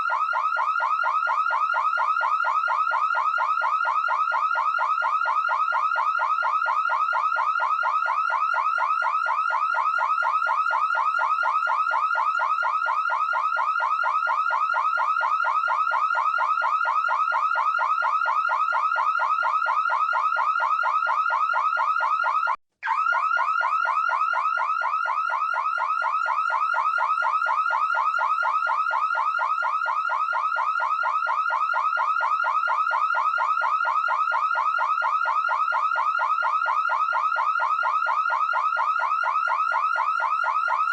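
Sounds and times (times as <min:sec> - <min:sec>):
electronic alarm siren sweeping: 0:00.0 - 0:40.9.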